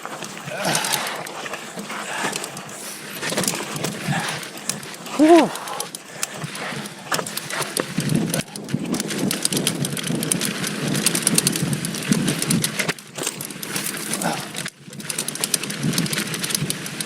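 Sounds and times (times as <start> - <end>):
bike tyres crunching on dirt: 0.0 - 17.0
rattling clicks: 0.0 - 17.0.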